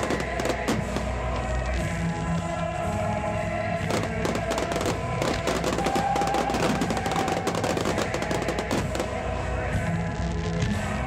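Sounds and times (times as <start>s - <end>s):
fireworks crackling and banging: 0.0s - 11.0s
music playing: 0.0s - 11.0s.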